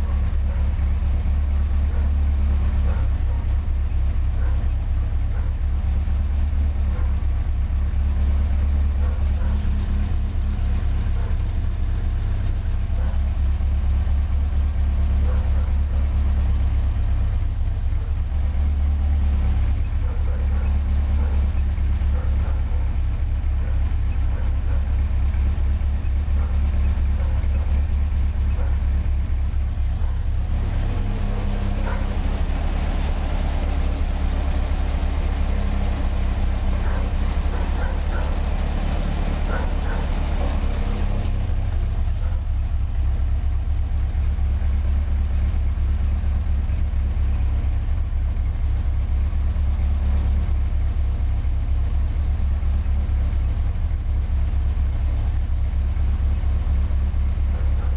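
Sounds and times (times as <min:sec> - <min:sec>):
car engine idling with tapping: 0:00.0 - 0:57.9.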